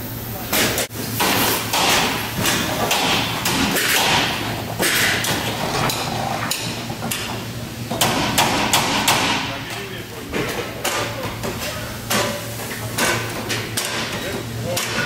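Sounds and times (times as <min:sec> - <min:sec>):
workshop din: 0:00.0 - 0:15.0.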